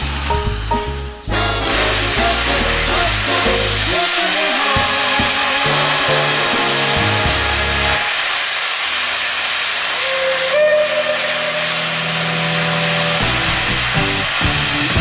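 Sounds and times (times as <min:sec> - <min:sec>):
steam hissing: 0:00.0 - 0:15.0
steam whistle: 0:01.3 - 0:15.0.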